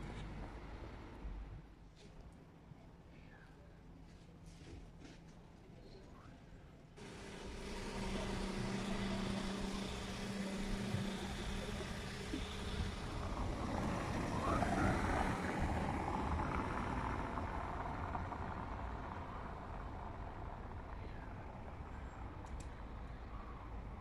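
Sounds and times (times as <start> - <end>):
vehicle engine hum: 0.0 - 2.5, 7.0 - 24.0
road noise: 0.0 - 2.6, 7.0 - 24.0.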